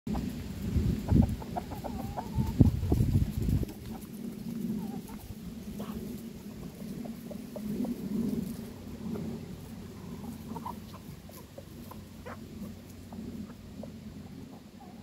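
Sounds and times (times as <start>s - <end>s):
chickens clucking: 0.1s - 15.0s.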